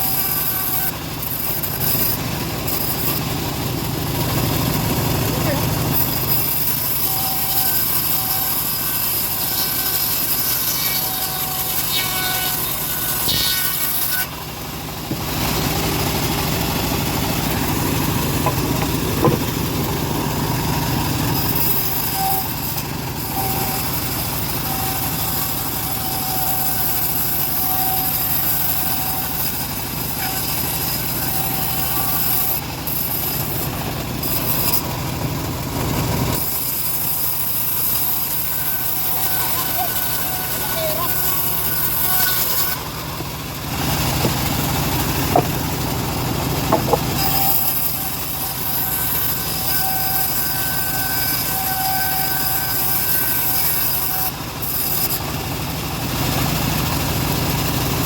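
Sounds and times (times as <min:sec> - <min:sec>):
band saw sawing through wood: 0:00.0 - 0:58.0.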